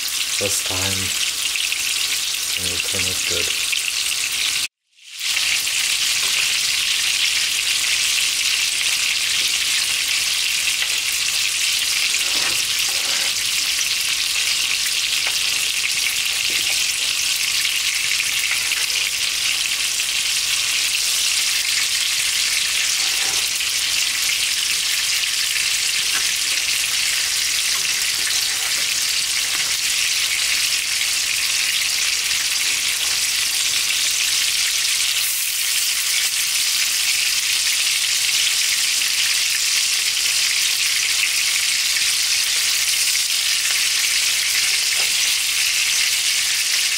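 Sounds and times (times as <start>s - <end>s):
meat sizzling in a pan: 0.0s - 46.9s.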